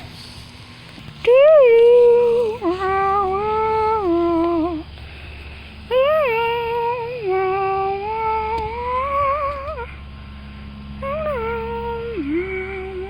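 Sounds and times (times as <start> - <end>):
high voice humming: 0.0 - 13.0.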